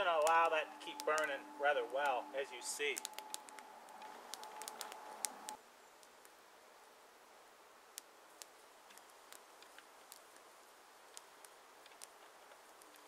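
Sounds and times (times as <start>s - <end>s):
wood fire crackling and popping: 0.0s - 6.4s, 7.9s - 13.0s.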